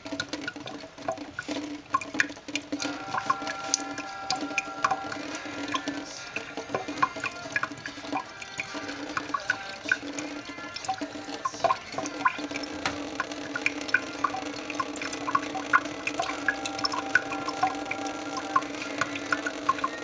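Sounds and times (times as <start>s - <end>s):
water running from a tap: 0.0s - 20.0s.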